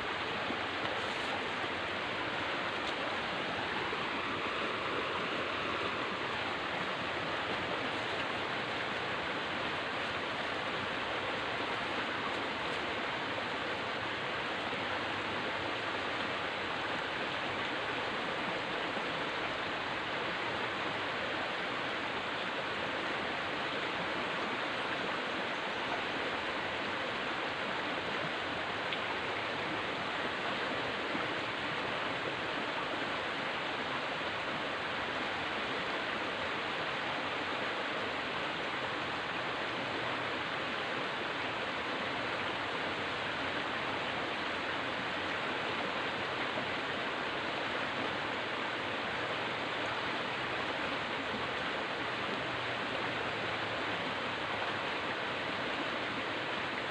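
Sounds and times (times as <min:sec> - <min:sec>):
river water flowing: 0:00.0 - 0:56.9.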